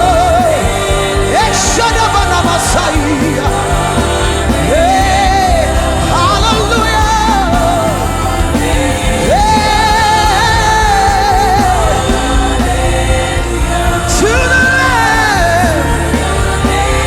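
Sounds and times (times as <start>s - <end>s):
band with heavy bass: 0.0s - 17.0s
person singing gospel: 0.0s - 17.0s.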